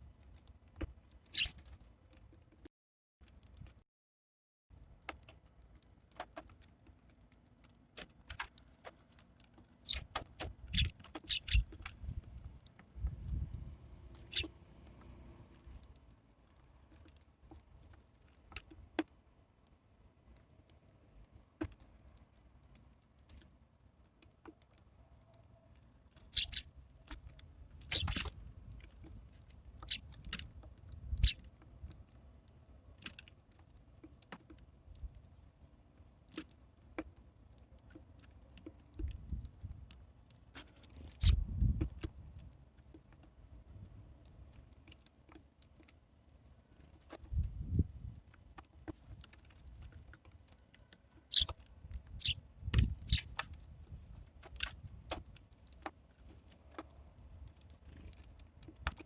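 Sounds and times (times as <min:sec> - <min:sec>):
birds pecking seeds: 0:00.3 - 0:02.5, 0:04.8 - 0:59.0.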